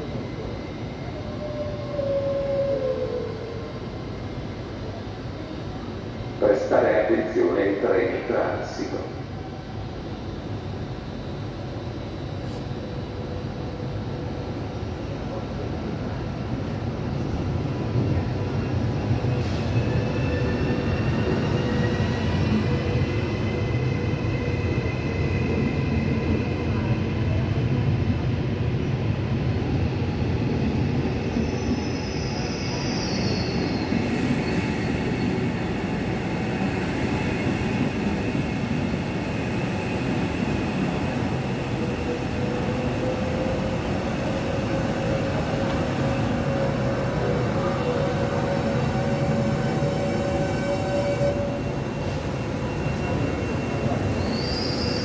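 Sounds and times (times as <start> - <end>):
electric train running by: 4.6 - 55.0.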